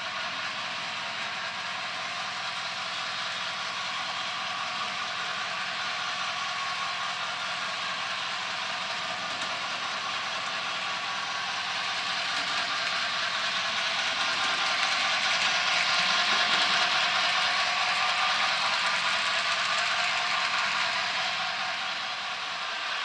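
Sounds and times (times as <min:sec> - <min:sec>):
model train wheels rolling on rails: 0:00.0 - 0:23.0.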